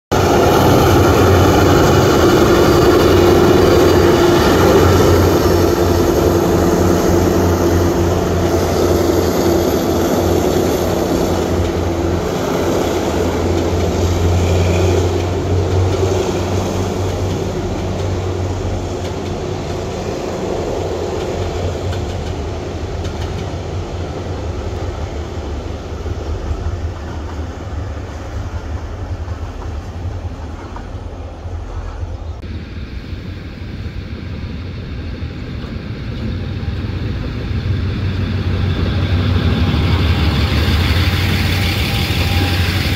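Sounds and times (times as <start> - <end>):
diesel locomotive engine hum: 0.1 - 42.9
train wheels on rails: 0.1 - 42.9.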